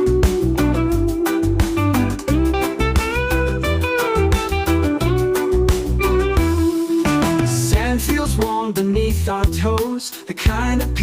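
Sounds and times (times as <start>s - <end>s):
reggae blues instrumental music: 0.0s - 11.0s.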